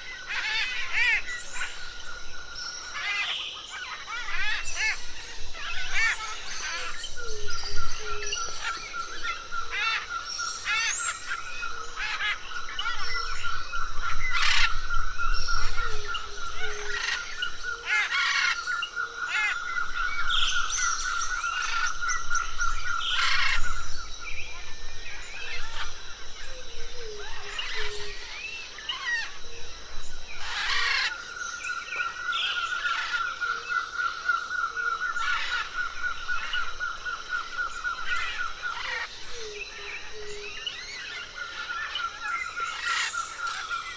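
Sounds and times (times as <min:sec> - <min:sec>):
birds calling and singing: 0:00.0 - 0:43.9.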